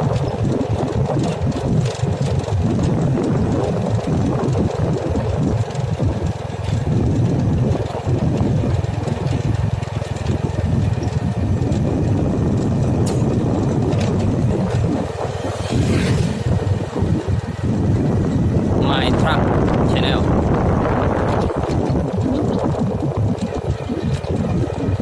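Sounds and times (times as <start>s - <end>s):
heavy engine rumbling: 0.0s - 25.0s.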